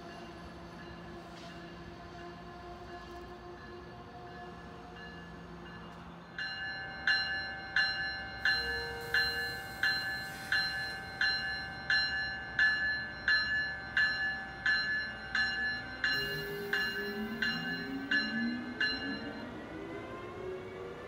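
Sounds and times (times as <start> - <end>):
railroad warning bell ringing: 0.0 - 20.3
electric train rumble: 0.0 - 21.0.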